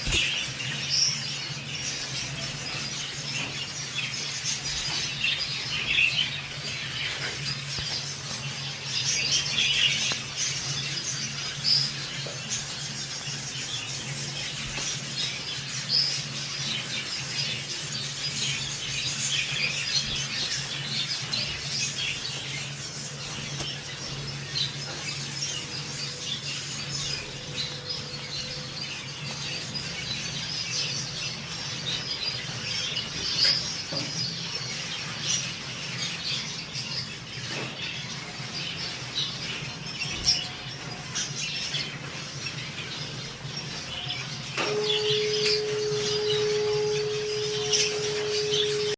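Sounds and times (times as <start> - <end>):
budgerigars chirping and squawking: 0.0 - 48.9.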